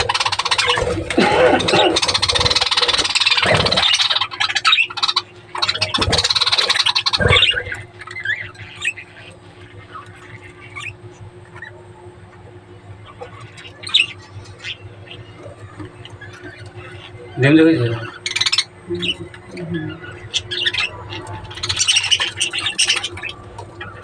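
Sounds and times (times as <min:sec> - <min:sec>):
budgerigars chattering and squawking: 0:00.0 - 0:24.0.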